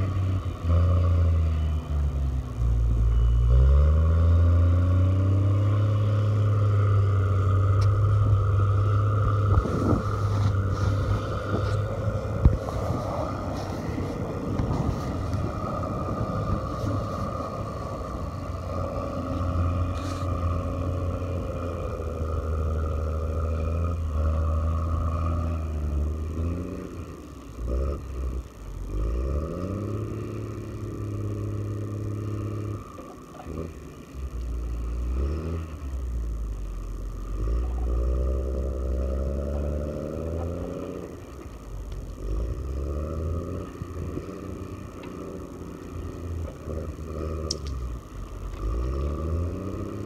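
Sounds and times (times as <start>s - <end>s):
high whine: 0.0s - 50.0s
machine engine revving: 0.0s - 50.0s.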